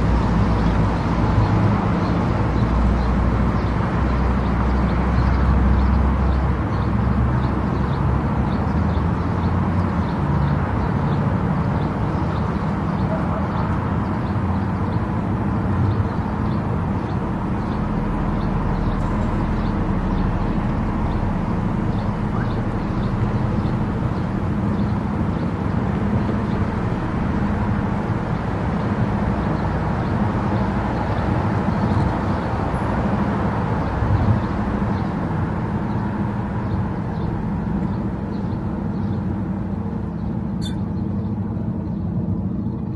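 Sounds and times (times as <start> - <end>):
car tyre and engine rumble: 0.0 - 42.9.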